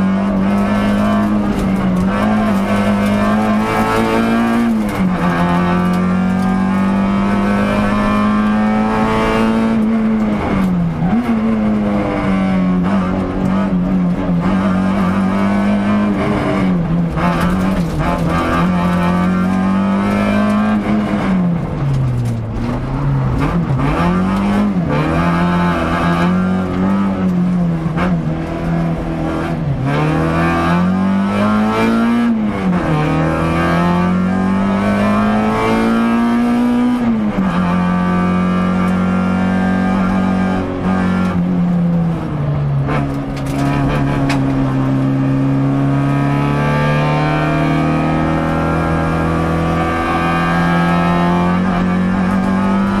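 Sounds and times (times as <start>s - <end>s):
car engine revving through gears: 0.0s - 53.0s.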